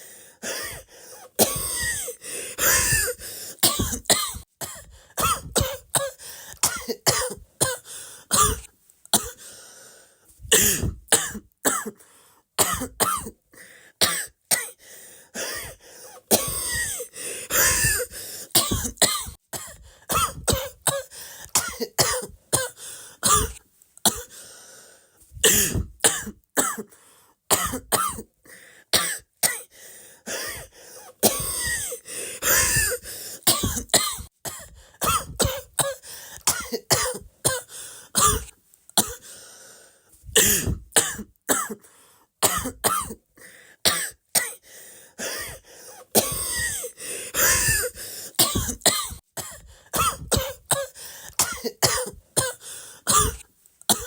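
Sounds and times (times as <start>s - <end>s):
person coughing: 0.4s - 9.4s, 10.5s - 12.0s, 12.6s - 13.4s, 15.4s - 24.4s, 25.4s - 28.3s, 30.3s - 39.3s, 40.3s - 41.8s, 42.4s - 43.2s, 45.2s - 54.0s.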